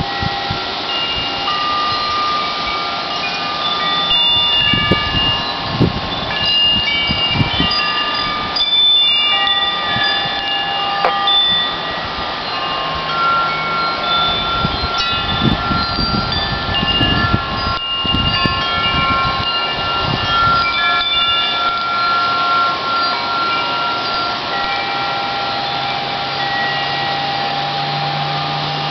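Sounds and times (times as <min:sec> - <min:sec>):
wind chimes ringing: 0:00.0 - 0:28.9
wind rumbling on microphone: 0:00.0 - 0:28.9.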